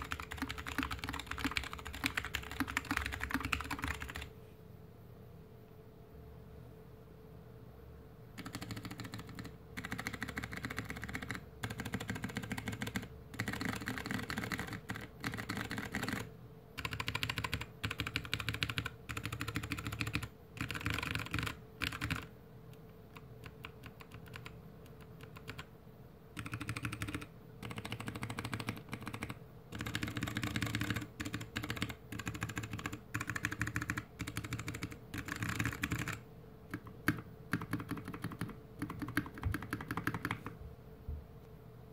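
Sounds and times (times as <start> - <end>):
mechanical keyboard typing: 0.0 - 4.3, 8.4 - 22.3, 23.1 - 25.7, 26.3 - 40.6.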